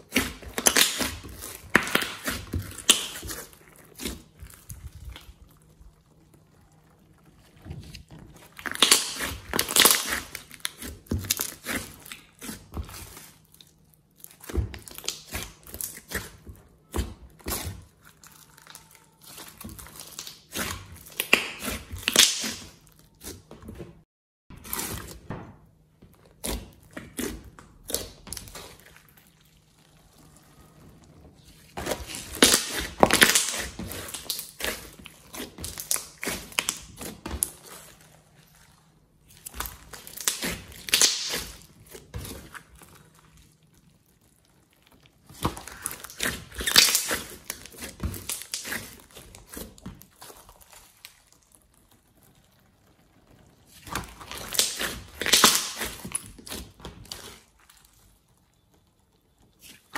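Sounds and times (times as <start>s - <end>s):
slime crackles and pops: 0.0s - 23.4s, 31.8s - 38.6s, 39.2s - 59.9s
slime wet squelches: 0.0s - 59.9s.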